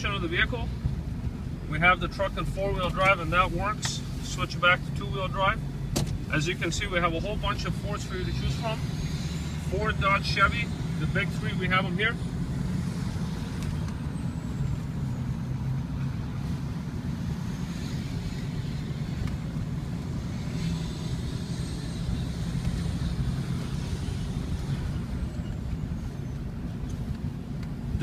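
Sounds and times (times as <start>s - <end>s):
diesel engine rumble from cab: 0.0s - 28.0s.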